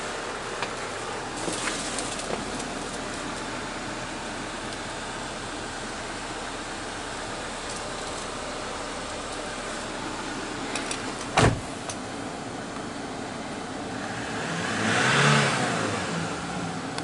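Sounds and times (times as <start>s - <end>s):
truck engine idling and revving: 0.0s - 17.0s.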